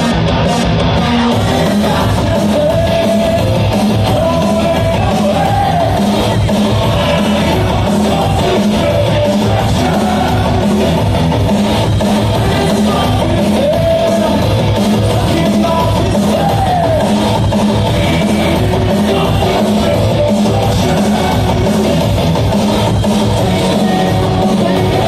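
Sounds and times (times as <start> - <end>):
loud dance music with heavy beat: 0.0 - 25.0.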